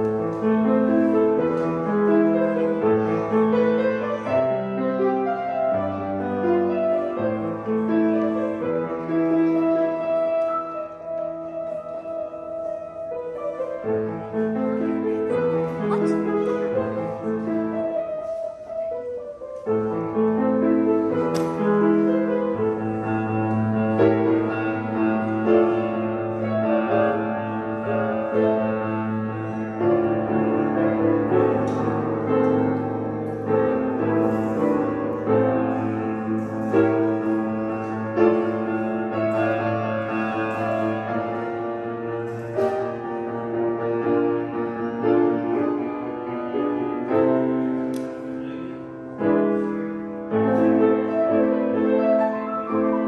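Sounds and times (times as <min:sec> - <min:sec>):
piano chords: 0:00.0 - 0:53.0.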